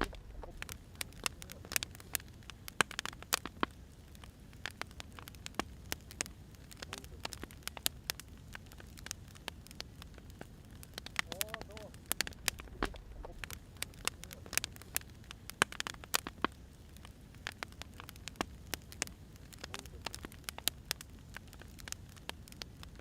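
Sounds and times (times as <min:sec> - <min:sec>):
low rumble of flames: 0:00.0 - 0:23.0
wood fire crackling: 0:00.0 - 0:23.0.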